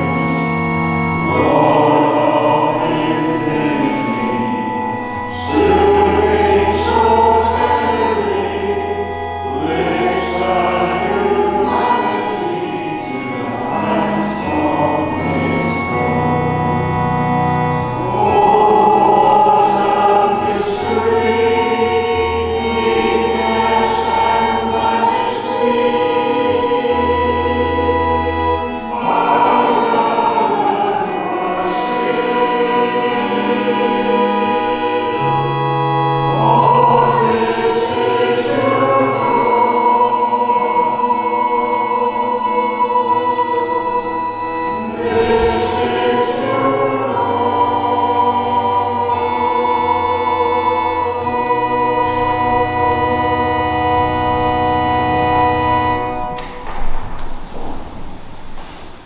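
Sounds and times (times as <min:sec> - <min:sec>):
congregation singing a hymn: 0:00.0 - 0:58.9
organ accompaniment: 0:00.0 - 0:58.9.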